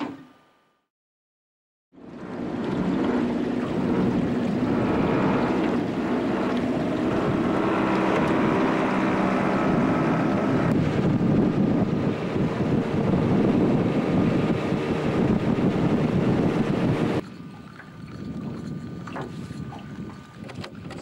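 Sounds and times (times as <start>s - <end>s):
outboard motor running: 1.9s - 21.0s
wind noise on microphone: 2.3s - 21.0s.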